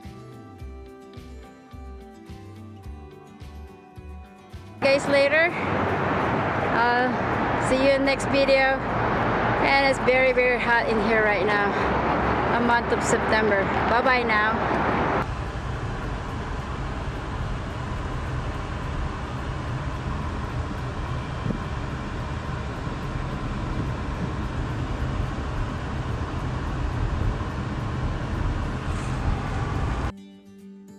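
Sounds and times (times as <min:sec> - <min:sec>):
car road and engine rumble: 0:04.8 - 0:30.1.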